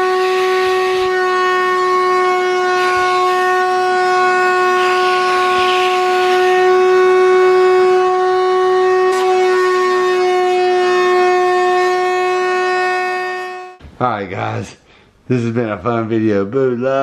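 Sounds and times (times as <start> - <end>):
vacuum motor whine: 0.0 - 13.8.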